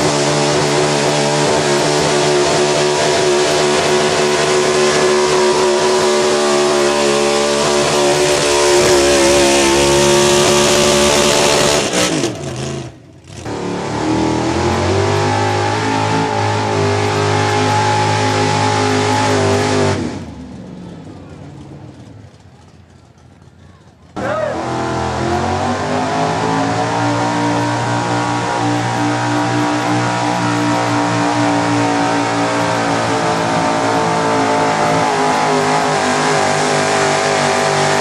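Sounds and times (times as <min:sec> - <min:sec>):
truck engine at full throttle: 0:00.0 - 0:38.0.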